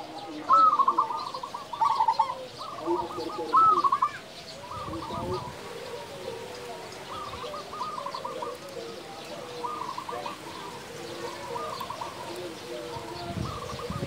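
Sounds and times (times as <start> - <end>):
dove rolling coo song: 0.0 - 14.0
soft low cooing: 0.0 - 14.0.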